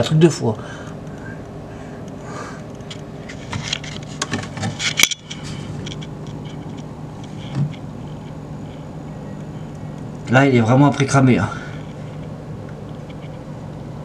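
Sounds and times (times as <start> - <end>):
fluorescent ballast hum: 0.0 - 14.0.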